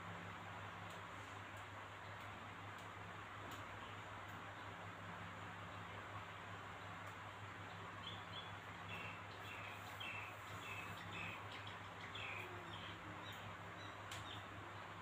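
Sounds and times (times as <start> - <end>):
steady low hum and hiss: 0.0 - 15.0
small birds chirping: 0.8 - 15.0.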